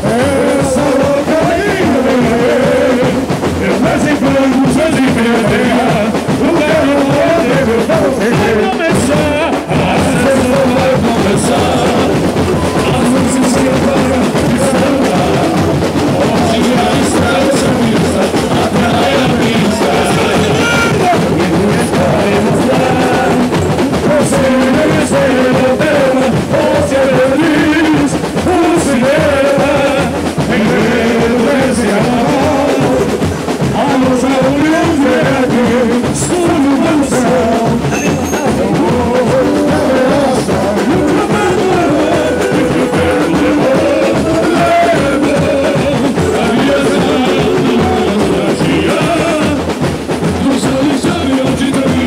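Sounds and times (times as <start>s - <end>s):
men singing samba: 0.0s - 52.0s.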